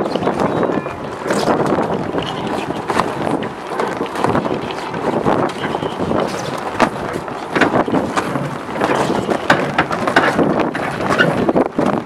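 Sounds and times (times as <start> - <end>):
water splashing along hull: 0.0 - 12.0
wind buffeting microphone: 0.0 - 12.0.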